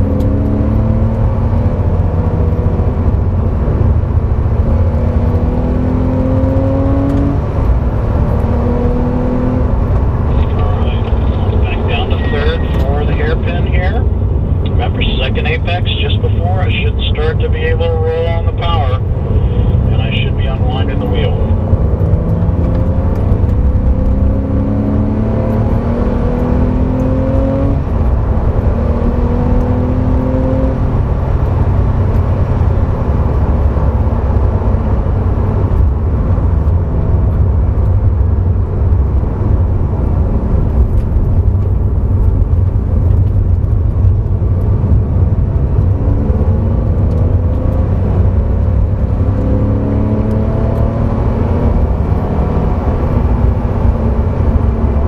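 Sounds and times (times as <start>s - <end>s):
sports car engine accelerating: 0.0s - 55.0s.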